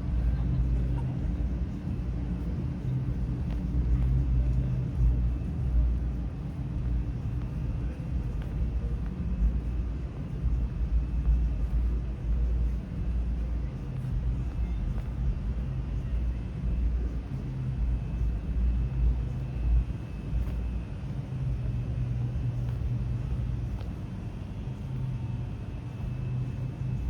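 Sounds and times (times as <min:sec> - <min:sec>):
rumble of road traffic: 0:00.0 - 0:27.0.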